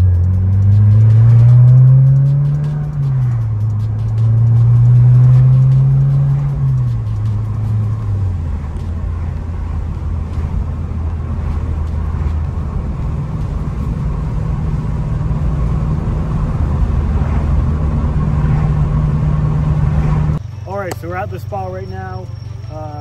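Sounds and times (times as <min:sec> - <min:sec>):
car exhaust hum from inside cabin: 0:00.0 - 0:20.5.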